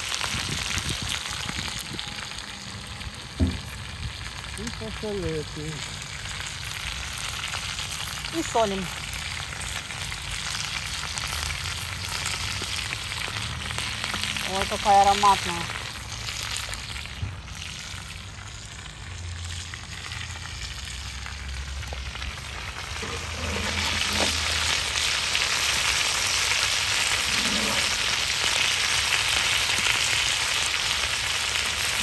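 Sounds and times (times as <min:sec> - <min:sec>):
food sizzling in a pot: 0:00.0 - 0:32.0.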